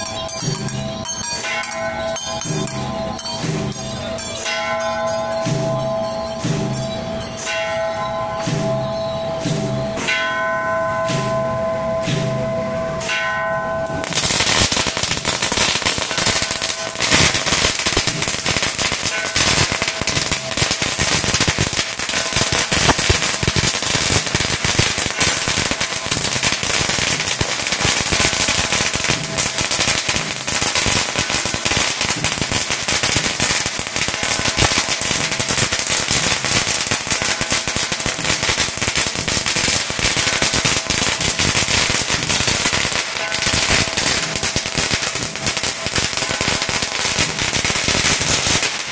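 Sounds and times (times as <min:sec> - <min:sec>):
firecrackers crackling: 0:00.0 - 0:48.9.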